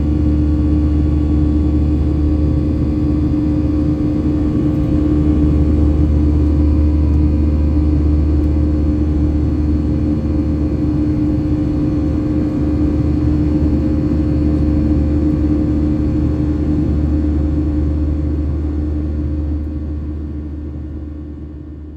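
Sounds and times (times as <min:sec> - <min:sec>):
airplane engine drone in cabin: 0:00.0 - 0:21.9.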